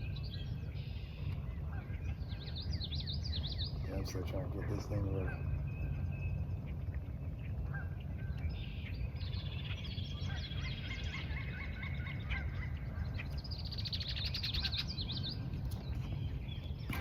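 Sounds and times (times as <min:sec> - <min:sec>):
birds chirping and singing: 0:00.0 - 0:17.0
steady low rumble: 0:00.0 - 0:17.0.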